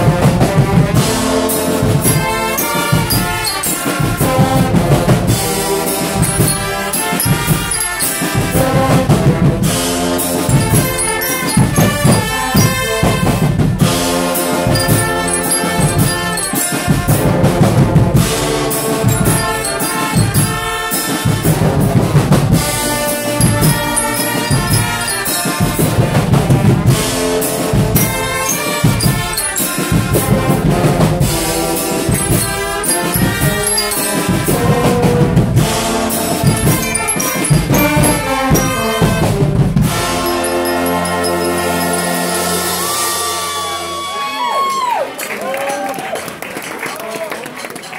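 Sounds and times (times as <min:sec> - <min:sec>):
drums beating: 0:00.0 - 0:42.7
brass band playing loudly: 0:00.0 - 0:43.9.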